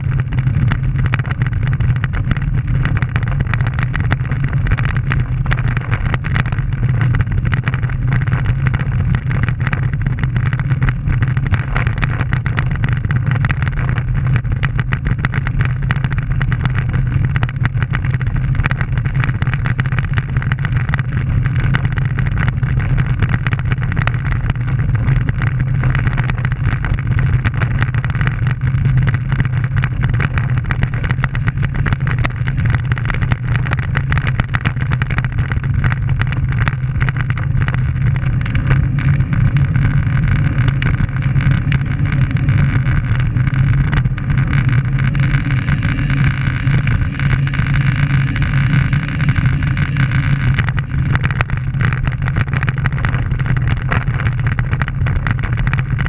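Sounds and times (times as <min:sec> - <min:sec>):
bike tyres rumbling on gravelly asphalt: 0:00.0 - 0:56.0
wind rush on microphone: 0:00.0 - 0:56.0.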